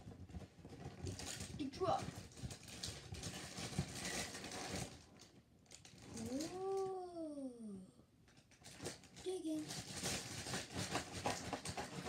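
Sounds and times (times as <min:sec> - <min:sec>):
cereal box and bag rustling: 0:00.0 - 0:06.9, 0:08.4 - 0:12.0.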